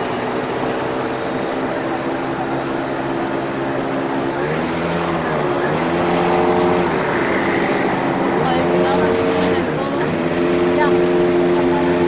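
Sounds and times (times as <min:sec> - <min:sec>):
small engine humming: 0:00.0 - 0:12.0
street traffic: 0:00.0 - 0:12.0.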